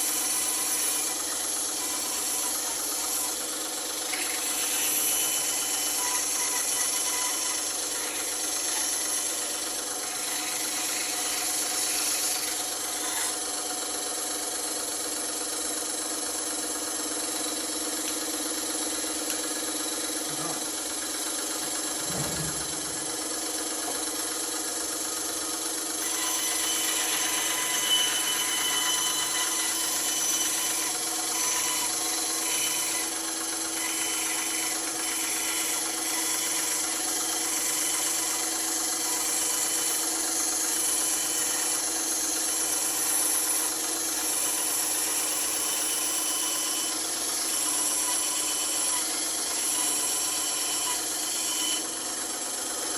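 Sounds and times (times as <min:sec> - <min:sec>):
blade cutting through wood: 0:00.0 - 0:13.8, 0:16.6 - 0:52.9
bandsaw running: 0:00.0 - 0:52.9.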